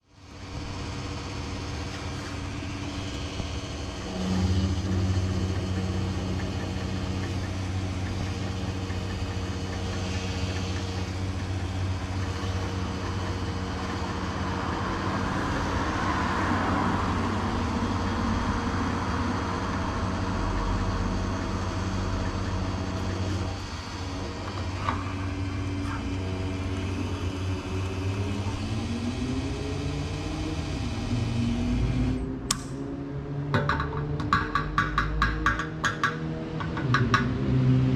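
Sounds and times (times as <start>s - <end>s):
motorcycle engine deep exhaust: 0.3s - 37.9s.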